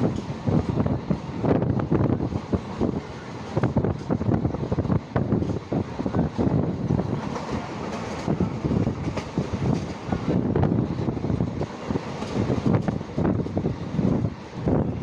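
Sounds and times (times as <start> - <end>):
train wheels clattering on rails: 0.0 - 14.8
train rushing noise: 0.0 - 15.0.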